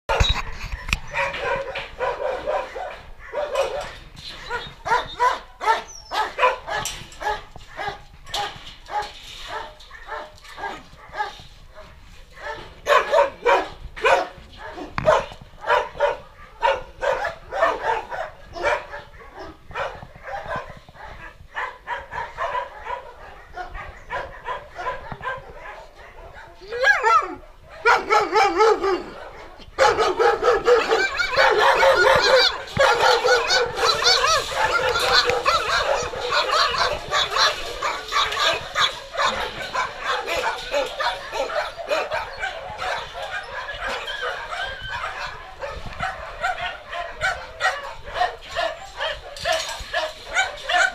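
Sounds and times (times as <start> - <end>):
dogs barking and yipping: 0.1 - 50.9.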